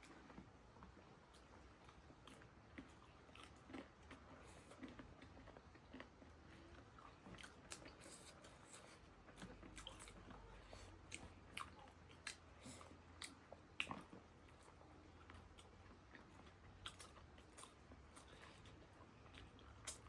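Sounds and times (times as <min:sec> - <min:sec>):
person chewing: 0:00.0 - 0:20.0.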